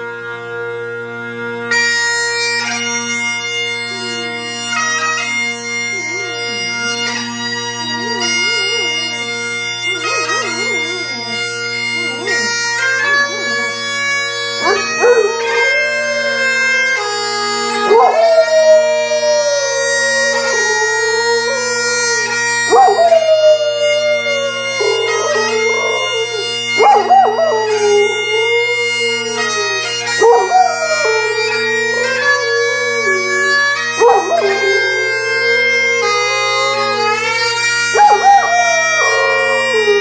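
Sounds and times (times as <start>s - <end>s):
bagpipe playing: 0.0s - 40.0s
dog howling: 3.9s - 40.0s.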